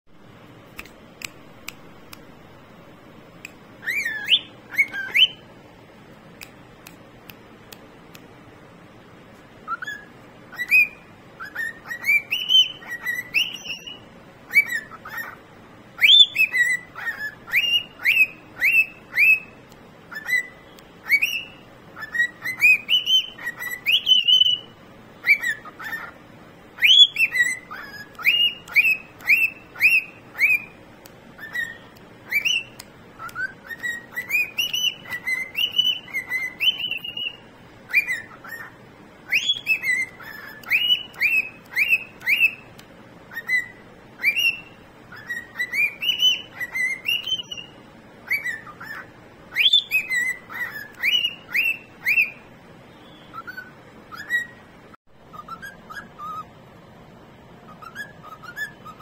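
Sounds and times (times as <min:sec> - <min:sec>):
cockatiel whistling: 0:03.8 - 0:05.4, 0:09.6 - 0:15.4, 0:16.0 - 0:26.2, 0:26.8 - 0:30.8, 0:31.4 - 0:54.6, 0:55.2 - 0:56.5, 0:57.7 - 0:59.0.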